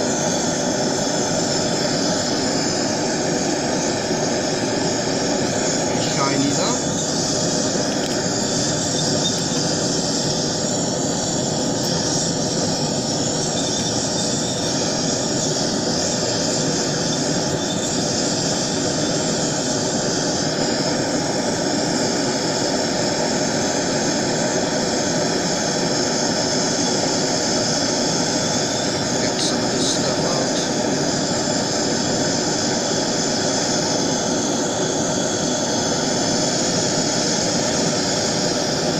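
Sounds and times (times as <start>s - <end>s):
torch flame roaring: 0.0s - 38.9s.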